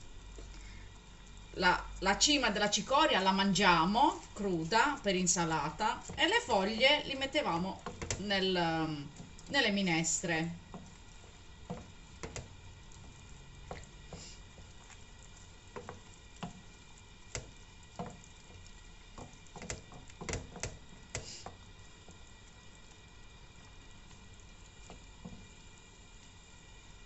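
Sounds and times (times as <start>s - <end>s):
broth simmering hiss: 0.0s - 27.0s
wooden spoon scraping a pan: 2.6s - 22.7s, 23.6s - 26.4s.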